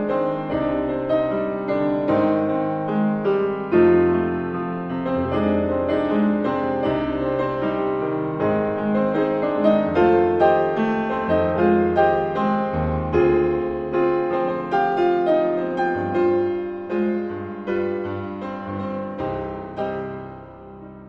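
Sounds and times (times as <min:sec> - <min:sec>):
calm piano melody: 0:00.0 - 0:21.0.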